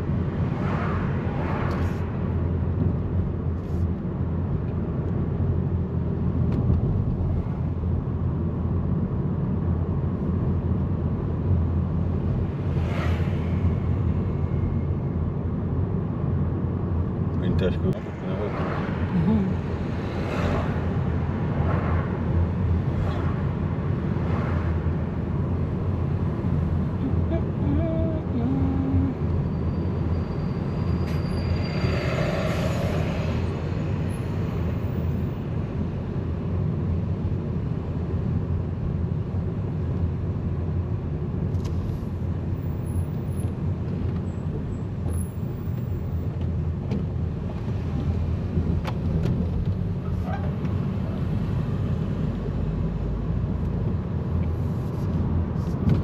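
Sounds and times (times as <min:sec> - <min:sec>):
road noise: 0:00.0 - 0:56.0
road vehicle rumble: 0:00.0 - 0:56.0.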